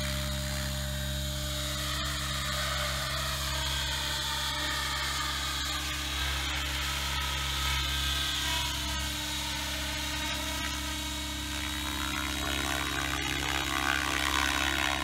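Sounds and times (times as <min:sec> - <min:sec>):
electric motor whine: 0:00.0 - 0:15.0
helicopter rotors humming: 0:00.0 - 0:15.0.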